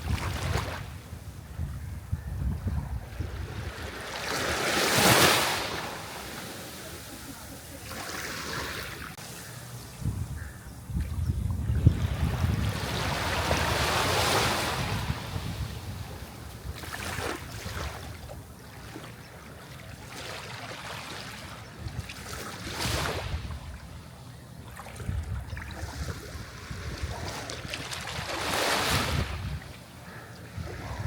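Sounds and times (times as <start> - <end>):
sea waves washing ashore: 3.1 - 10.0, 11.9 - 31.0.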